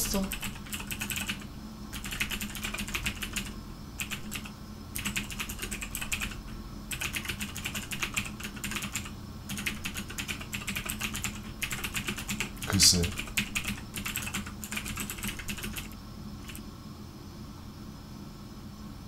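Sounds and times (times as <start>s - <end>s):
faint low hum: 0.0s - 19.0s
typing on computer keyboard: 0.1s - 16.6s.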